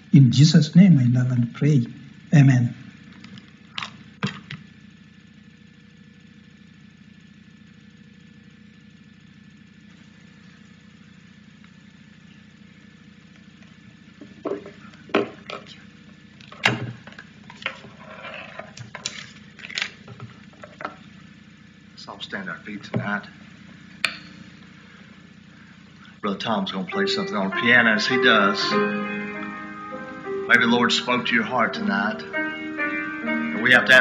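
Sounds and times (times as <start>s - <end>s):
sound system hum: 0.0s - 34.0s.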